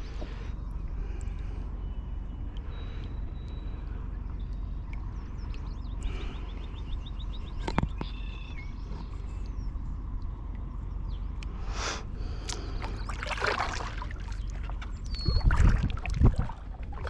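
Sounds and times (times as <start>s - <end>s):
small birds calling: 0.0s - 17.0s
steady low rumble: 0.0s - 17.0s.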